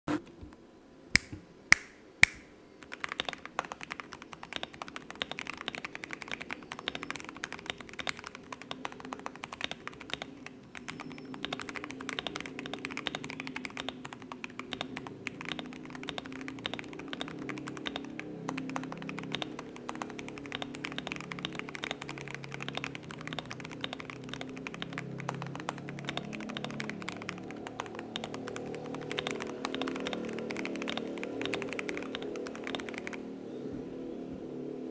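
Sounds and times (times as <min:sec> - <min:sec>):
sharp clicks: 0:01.2 - 0:33.2
mechanical keyboard typing: 0:02.2 - 0:33.2.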